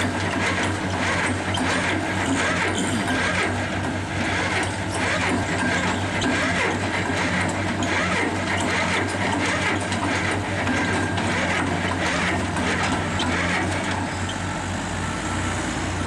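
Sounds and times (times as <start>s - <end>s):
diesel engines humming: 0.0s - 16.0s.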